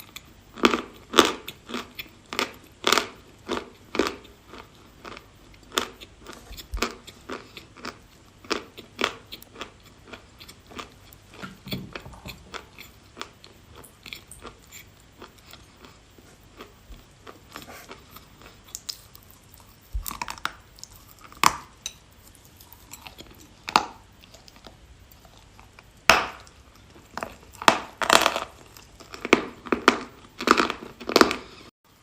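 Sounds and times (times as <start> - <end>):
person chewing crunchy clay: 0.0 - 32.0.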